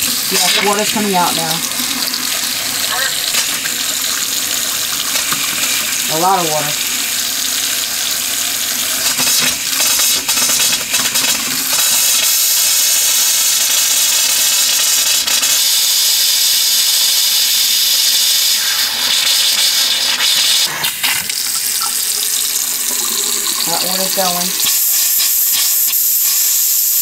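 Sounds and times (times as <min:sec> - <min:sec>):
faucet running into sink: 0:00.0 - 0:27.0
faucet spitting air and water: 0:00.0 - 0:27.0.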